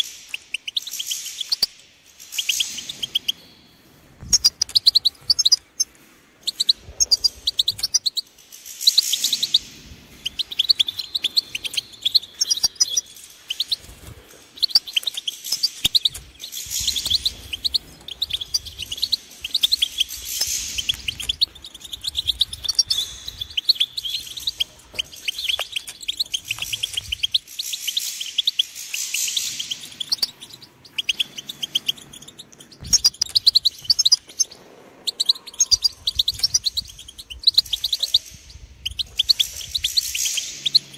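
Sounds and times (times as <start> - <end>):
goldfinch twittering song: 0.0 - 3.5, 4.2 - 40.9.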